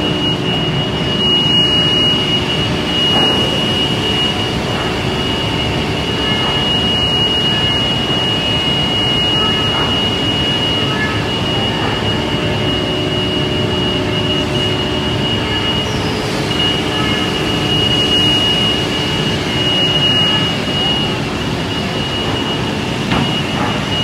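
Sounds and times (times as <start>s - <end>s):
high-pitched whine: 0.0s - 24.0s
woodworking machinery running: 0.0s - 24.0s.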